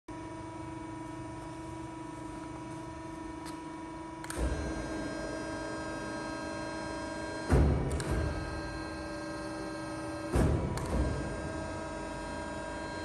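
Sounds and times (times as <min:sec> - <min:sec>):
machinery mains hum: 0:00.1 - 0:13.0.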